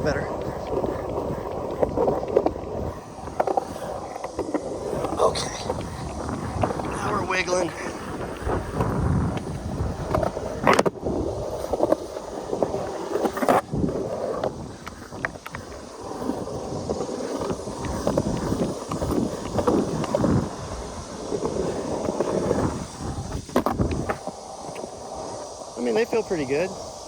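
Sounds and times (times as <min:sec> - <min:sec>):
skateboard wheels rolling on concrete: 0:00.0 - 0:27.0
wind on microphone: 0:00.0 - 0:27.0.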